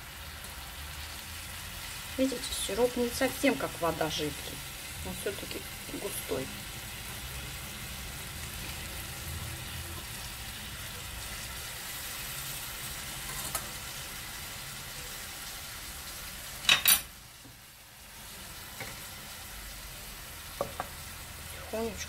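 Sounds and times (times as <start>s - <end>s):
pastry sizzling in a pan: 0.0s - 22.0s.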